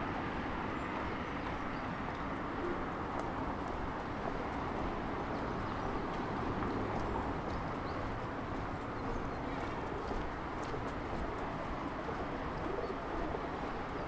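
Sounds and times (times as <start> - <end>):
city street ambience: 0.0 - 14.0.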